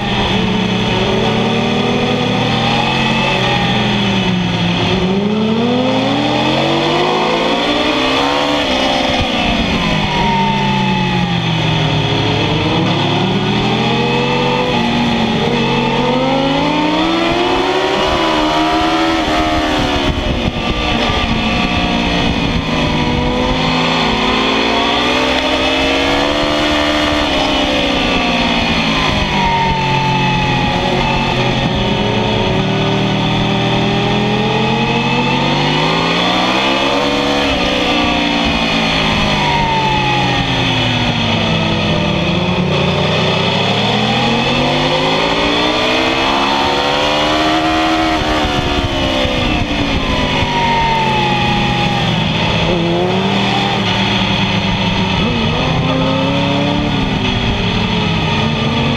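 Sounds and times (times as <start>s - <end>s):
motorcycle engine revving: 0.0s - 58.9s
wind rush: 0.0s - 58.9s.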